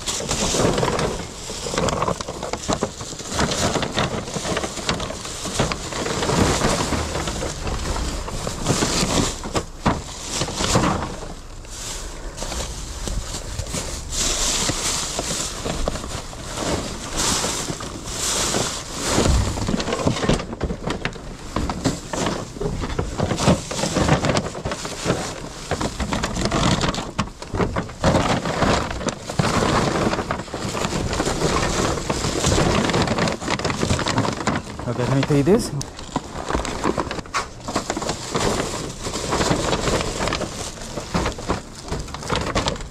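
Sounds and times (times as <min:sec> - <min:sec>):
items knocking and clattering: 0:00.0 - 0:11.5, 0:12.4 - 0:42.9
plastic bags rustling: 0:00.0 - 0:42.9.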